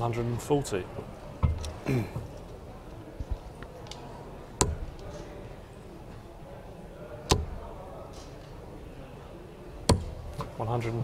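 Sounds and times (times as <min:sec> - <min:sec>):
low hall background: 0:00.0 - 0:11.0.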